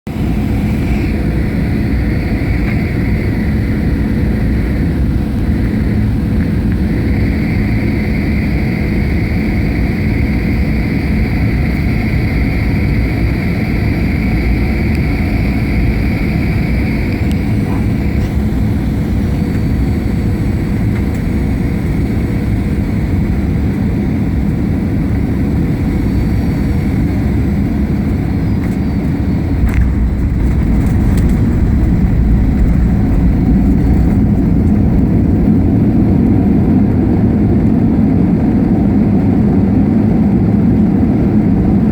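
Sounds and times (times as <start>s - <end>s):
airplane engines rumbling: 0.0s - 41.9s
high whine: 0.1s - 41.9s.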